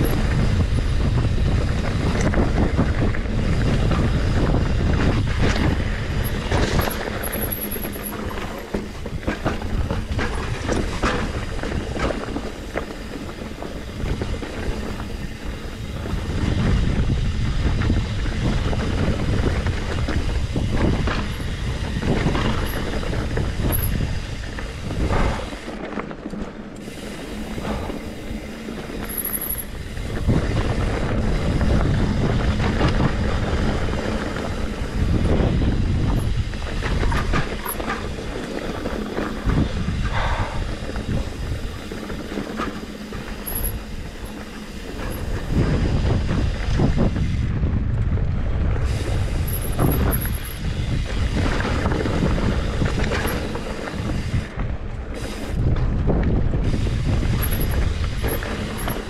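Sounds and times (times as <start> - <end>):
bike rattling over rocks: 0.0 - 59.0
wind buffeting microphone: 0.0 - 59.0.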